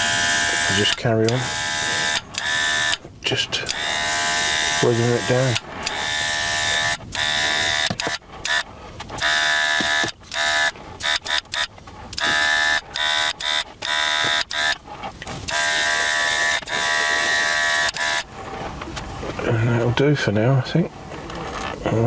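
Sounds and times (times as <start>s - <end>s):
airbrush compressor whining: 0.0s - 20.4s.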